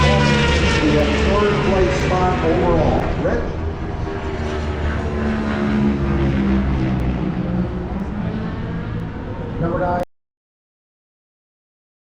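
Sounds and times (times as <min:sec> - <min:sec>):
racing motorcycle engines: 0:00.0 - 0:10.0.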